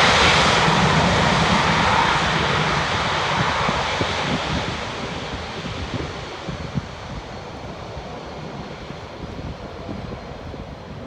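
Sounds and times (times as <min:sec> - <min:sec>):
jet engine noise: 0:00.0 - 0:11.0
wind rumbling on microphone: 0:00.0 - 0:11.0.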